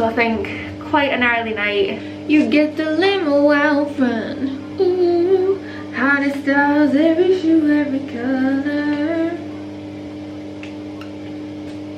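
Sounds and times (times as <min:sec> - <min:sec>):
woman singing unaccompanied: 0:00.0 - 0:09.6
steady low hum: 0:00.0 - 0:11.9.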